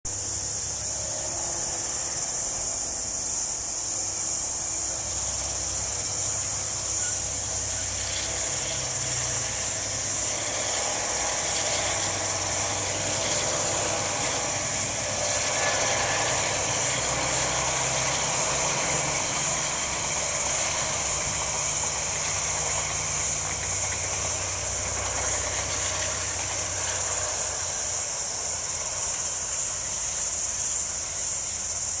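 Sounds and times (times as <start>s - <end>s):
diesel locomotive engine hum: 0.1s - 32.0s
insect drone: 0.1s - 32.0s.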